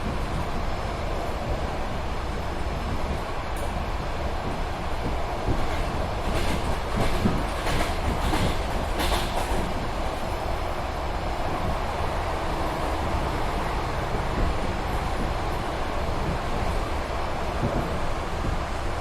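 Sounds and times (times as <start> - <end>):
train rumbling and rattling: 0.0 - 19.0.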